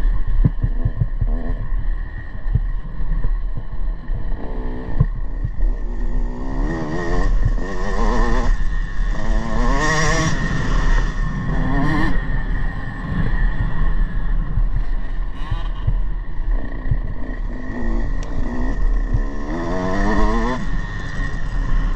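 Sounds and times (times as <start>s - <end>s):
wind on microphone: 0.0s - 21.9s
motocross bike engine revving: 3.6s - 14.9s, 15.5s - 21.9s.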